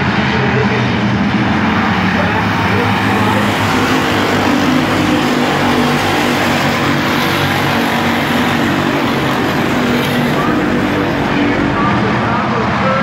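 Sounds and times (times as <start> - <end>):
stock car engines running hard: 0.0 - 13.0.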